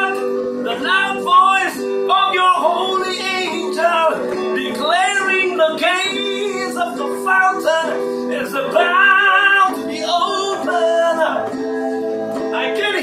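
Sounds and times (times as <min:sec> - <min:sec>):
man singing into microphone: 0:00.0 - 0:11.6, 0:12.4 - 0:13.0
electronic keyboard chords: 0:00.0 - 0:13.0.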